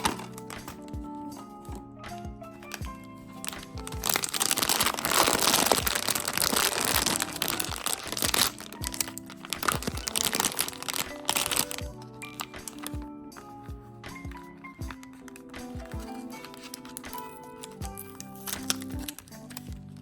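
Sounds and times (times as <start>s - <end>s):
packaging crinkling: 0.0s - 0.9s, 2.6s - 13.0s, 14.6s - 20.0s.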